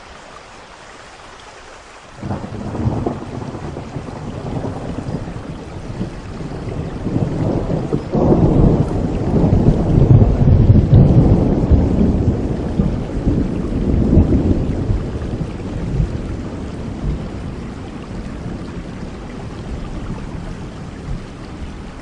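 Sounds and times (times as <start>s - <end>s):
rain hissing: 0.0s - 22.0s
rolling thunder: 2.2s - 22.0s.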